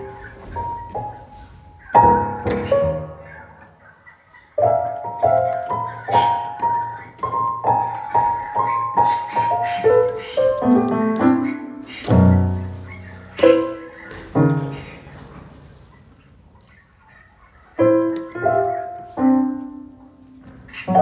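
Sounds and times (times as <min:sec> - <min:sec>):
piano music: 0:00.0 - 0:03.9, 0:04.5 - 0:15.2, 0:17.8 - 0:21.0.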